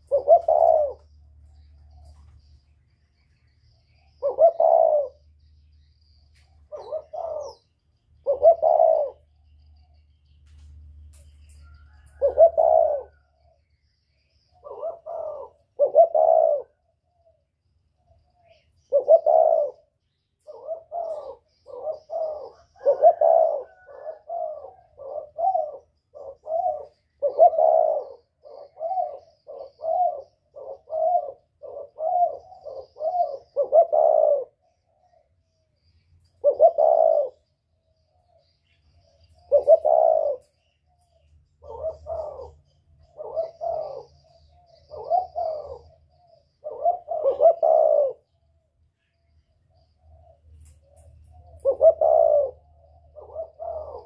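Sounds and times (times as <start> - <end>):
dove cooing: 0.0 - 10.7, 11.4 - 54.0.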